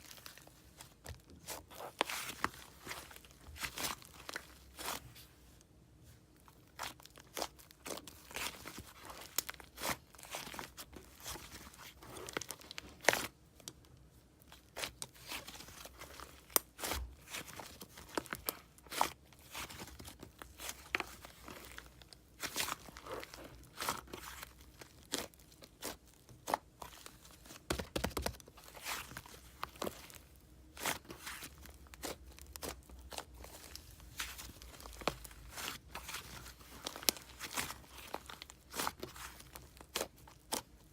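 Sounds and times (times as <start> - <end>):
slime crackling and crunching: 0.0 - 5.3, 6.4 - 13.8, 14.4 - 40.9.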